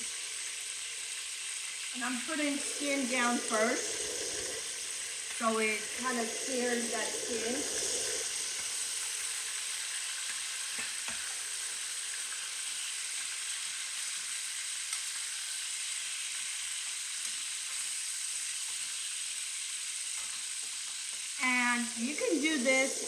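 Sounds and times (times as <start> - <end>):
chicken sizzling in oil: 0.0 - 23.0.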